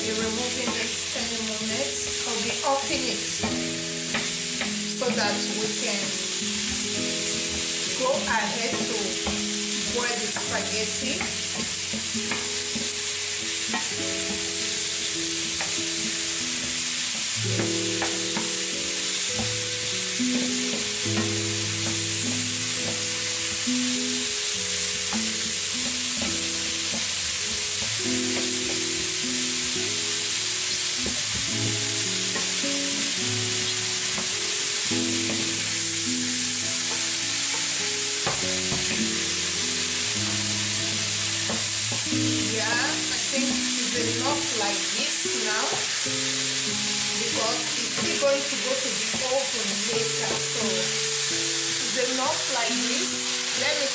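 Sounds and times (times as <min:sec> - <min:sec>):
soft background music: 0:00.0 - 0:53.9
vegetables sizzling in a frying pan: 0:00.0 - 0:53.9.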